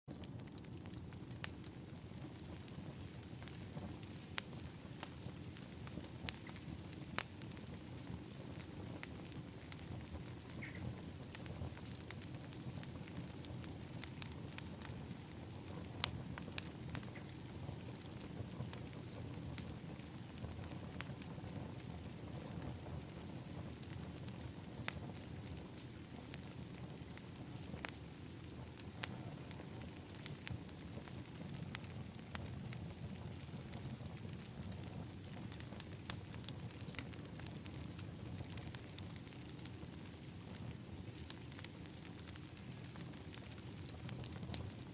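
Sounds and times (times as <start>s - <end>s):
fire crackling and popping: 0.1s - 44.9s
low rush of fire: 0.1s - 44.9s.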